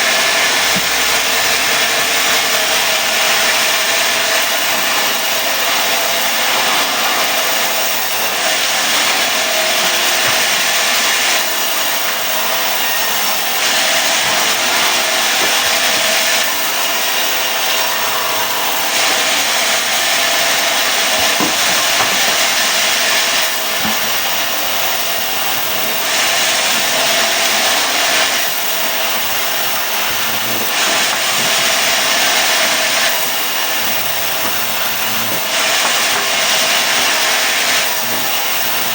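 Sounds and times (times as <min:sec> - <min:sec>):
sawmill blade cutting wood: 0:00.0 - 0:38.9.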